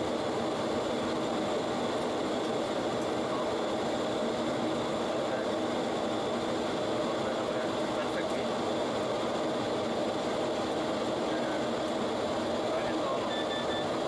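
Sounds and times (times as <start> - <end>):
jet engine noise: 0.0 - 14.0.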